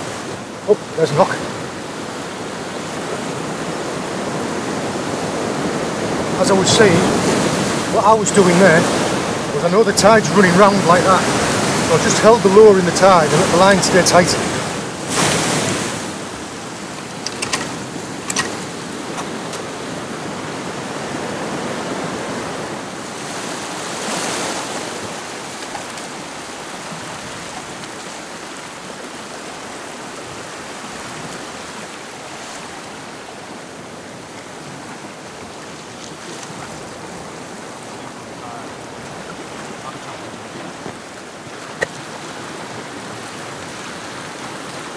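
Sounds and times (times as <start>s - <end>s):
sea water rushing past rocks: 0.0s - 44.9s.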